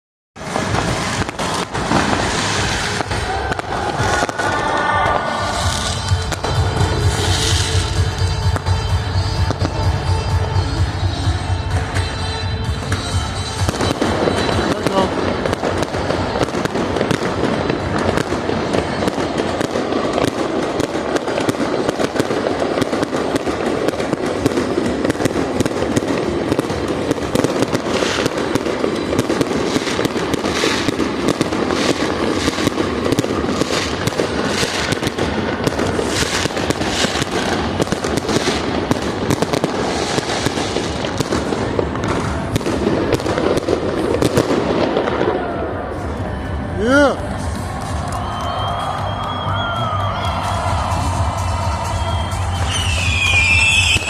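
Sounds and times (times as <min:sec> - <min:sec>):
fireworks crackling and banging: 0:00.4 - 0:54.0.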